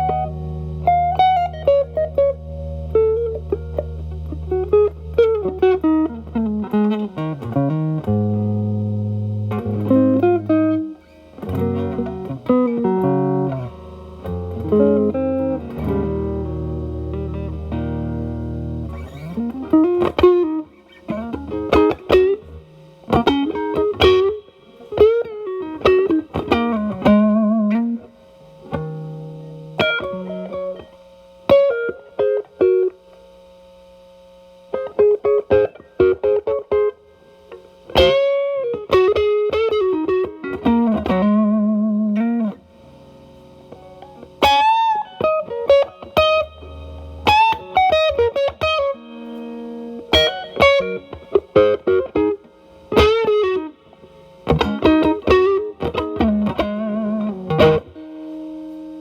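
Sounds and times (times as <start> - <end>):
distorted electric guitar with string bends: 0.0 - 59.0.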